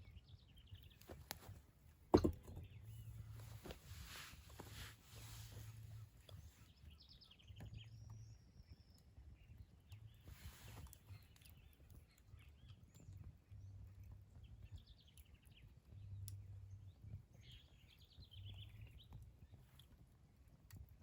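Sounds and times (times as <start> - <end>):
birds chirping: 0.0 - 20.1.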